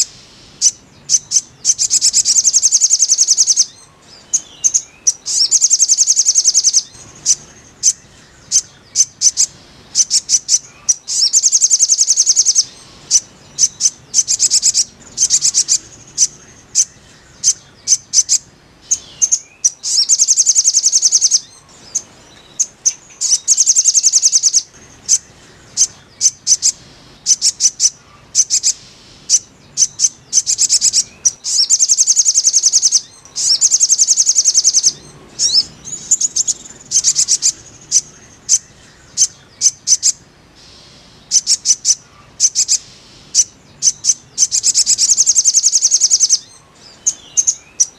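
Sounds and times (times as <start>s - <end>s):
bird high rapid trills: 0.0s - 47.9s
bird sharp chirps: 0.0s - 47.9s.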